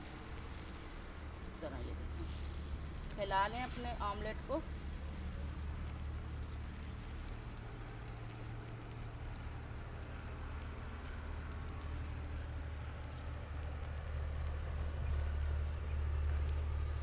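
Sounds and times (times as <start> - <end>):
egg sizzling on a hot pan: 0.0 - 17.0.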